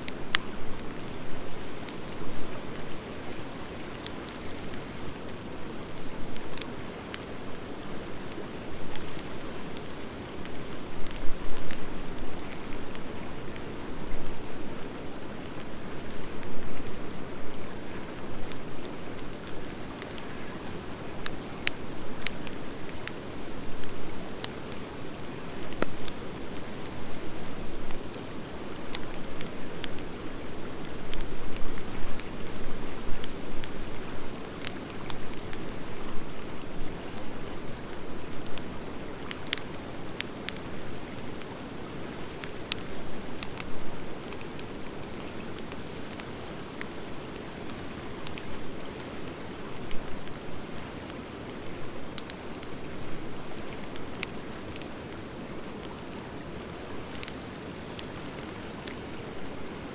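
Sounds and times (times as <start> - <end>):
fire crackles and pops: 0.0 - 59.9
wood fire burning: 0.0 - 59.9.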